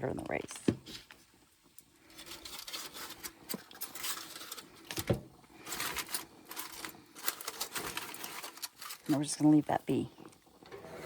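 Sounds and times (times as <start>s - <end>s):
utensil scraping a cooking pot: 0.8s - 9.2s, 10.1s - 11.0s.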